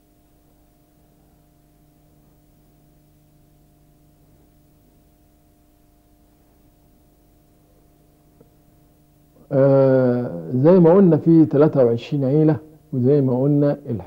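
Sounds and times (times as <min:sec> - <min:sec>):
faint steady hum: 0:00.0 - 0:14.0
low hiss: 0:00.0 - 0:14.0.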